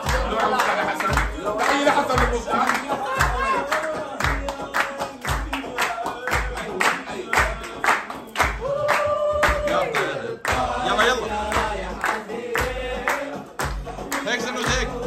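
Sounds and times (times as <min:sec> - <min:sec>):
hands clapping: 0:00.0 - 0:15.0
voices singing over a beat: 0:00.0 - 0:15.0.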